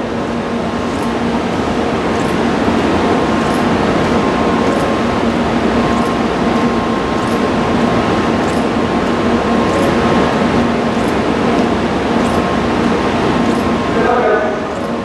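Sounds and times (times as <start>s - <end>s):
train equipment hum and hiss: 0.0s - 15.0s.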